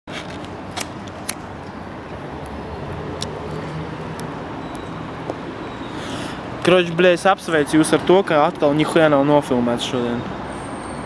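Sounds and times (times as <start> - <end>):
distant traffic hum: 0.1 - 11.0.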